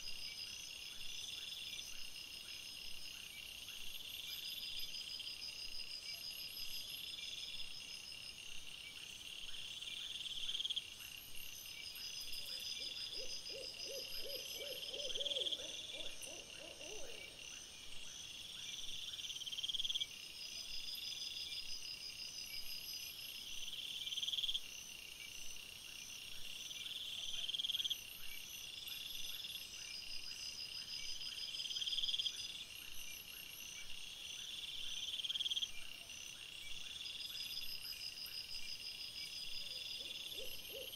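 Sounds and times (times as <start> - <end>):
low pulsing insect call: 0.0 - 40.9.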